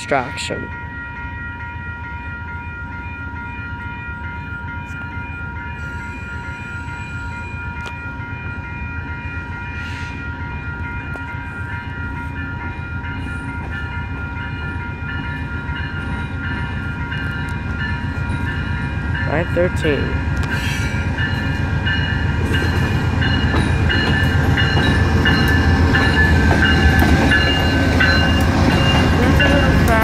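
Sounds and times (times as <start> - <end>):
diesel locomotive rumble: 0.0 - 30.0
railroad crossing bell ringing: 0.0 - 30.0.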